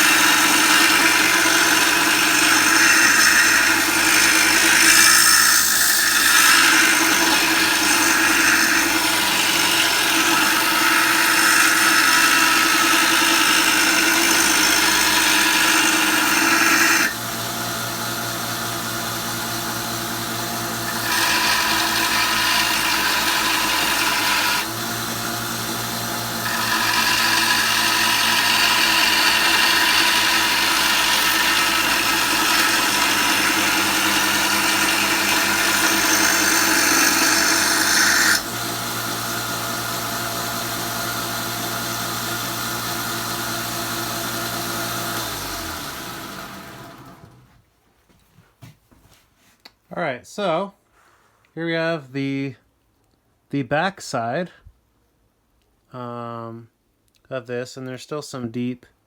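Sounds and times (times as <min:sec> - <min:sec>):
blade grinding on sander belt: 0:00.0 - 0:47.5
sander motor humming: 0:00.0 - 0:47.5.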